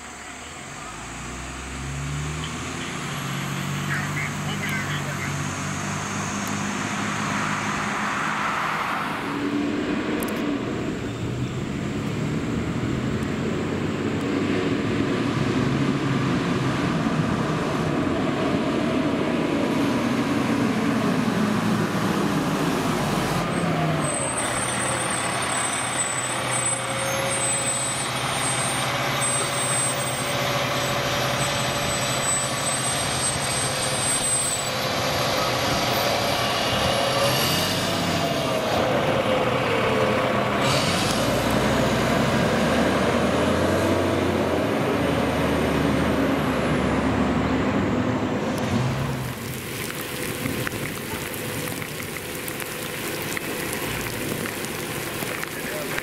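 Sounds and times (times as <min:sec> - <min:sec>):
fire engine diesel engines: 0:00.0 - 0:56.0.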